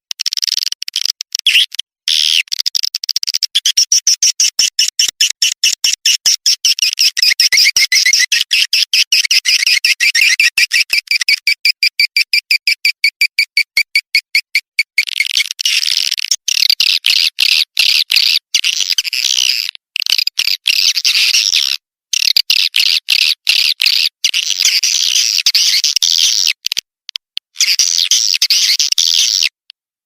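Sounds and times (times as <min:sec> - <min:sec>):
high-pitched bird chirps: 0:00.1 - 0:26.6, 0:27.5 - 0:29.6.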